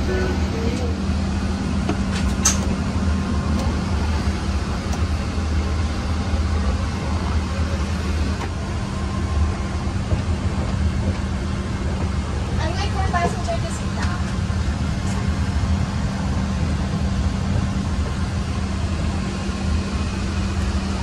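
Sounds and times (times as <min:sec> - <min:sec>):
airliner cabin hum: 0:00.0 - 0:21.0.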